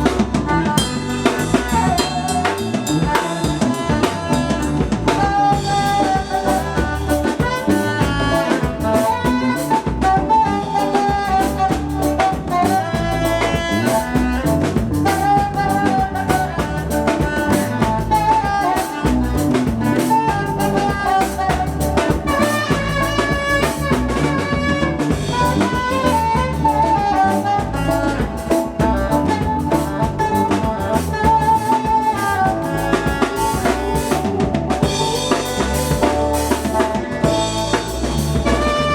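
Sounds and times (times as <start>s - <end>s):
drum kit beat: 0.0s - 38.9s
wavering melody line: 0.0s - 38.9s.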